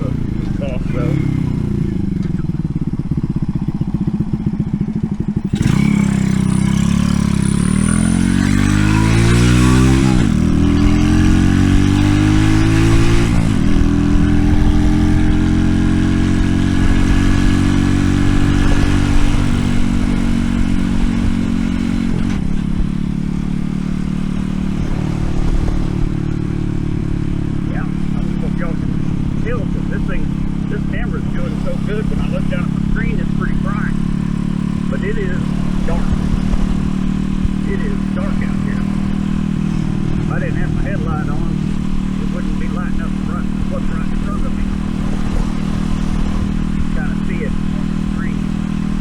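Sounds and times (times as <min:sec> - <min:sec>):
motorbike engine revving: 0:00.0 - 0:49.0.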